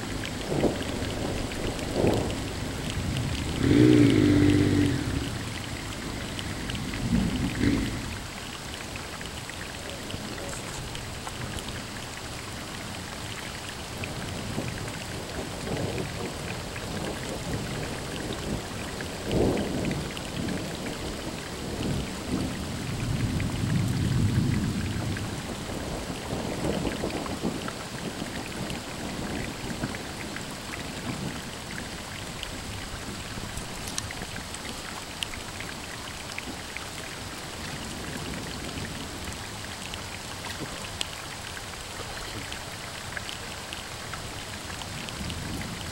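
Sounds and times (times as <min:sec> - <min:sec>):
steady rain hissing: 0:00.0 - 0:45.9.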